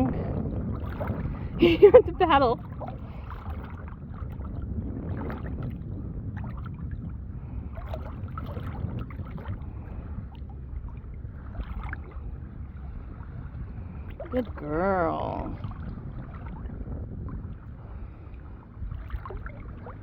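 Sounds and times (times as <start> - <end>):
water sloshing and splashing: 0.0 - 20.0
dog paddling splashes: 0.7 - 6.9, 7.7 - 20.0.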